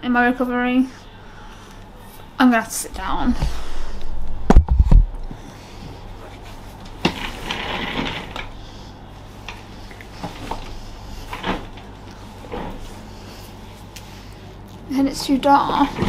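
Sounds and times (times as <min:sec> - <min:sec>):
clothing and chair rustling: 0:02.0 - 0:16.0.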